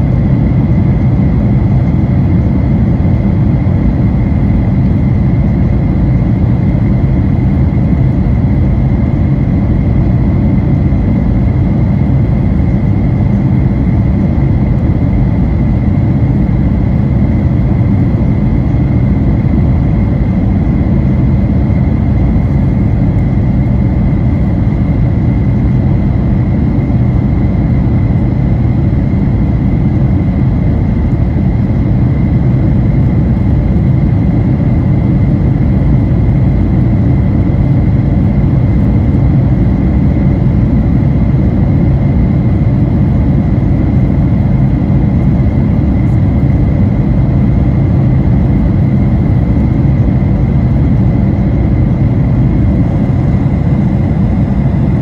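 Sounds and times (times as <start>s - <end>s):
airliner engine and airflow rumble: 0.0s - 55.0s.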